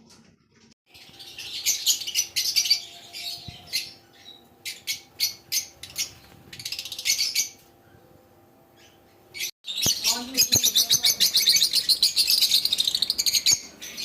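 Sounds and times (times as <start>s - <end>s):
parrots chirping and squawking: 0.9s - 8.0s, 8.8s - 14.0s.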